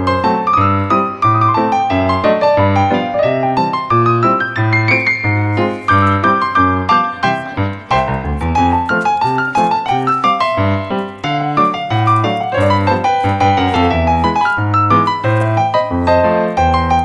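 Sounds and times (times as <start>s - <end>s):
piano melody over bass line: 0.0s - 17.0s.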